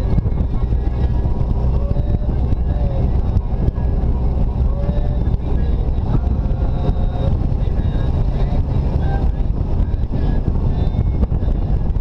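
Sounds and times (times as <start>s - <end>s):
car driving on paved road: 0.0s - 12.0s.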